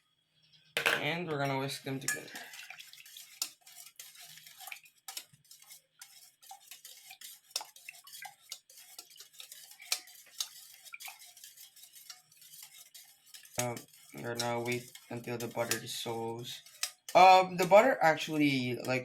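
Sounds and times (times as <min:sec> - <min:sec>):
whisk clinking against bowl: 0:01.4 - 0:17.8
whisk stirring in a bowl: 0:01.4 - 0:19.0.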